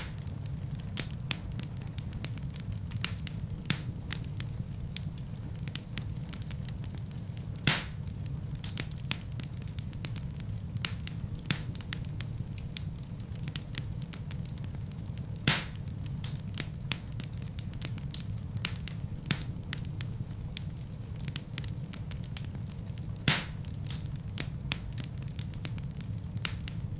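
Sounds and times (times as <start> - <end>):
fireplace fire crackling: 0.0 - 26.9
loud fire pops: 0.0 - 26.9.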